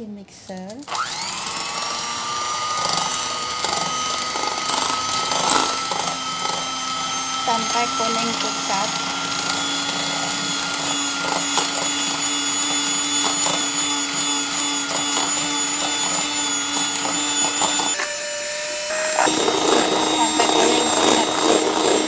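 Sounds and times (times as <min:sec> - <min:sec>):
electric hand mixer running: 0:00.8 - 0:22.0.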